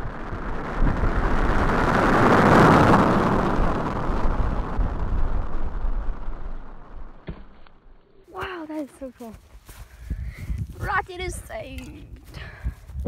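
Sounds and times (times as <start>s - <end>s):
wind rumble on microphone: 0.0s - 7.2s, 9.4s - 13.0s.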